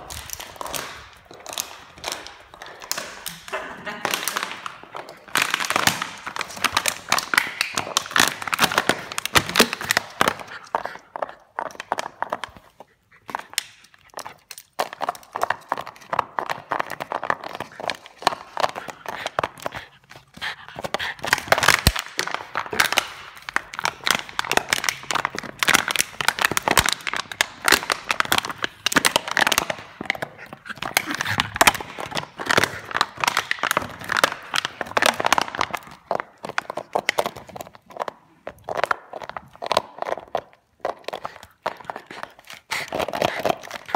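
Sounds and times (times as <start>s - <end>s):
plastic bottle crinkling: 0.0s - 43.9s.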